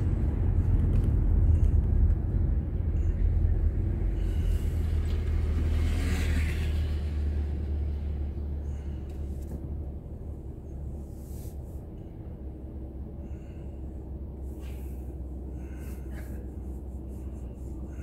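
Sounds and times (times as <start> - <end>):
car engine idling rumble: 0.0 - 18.0.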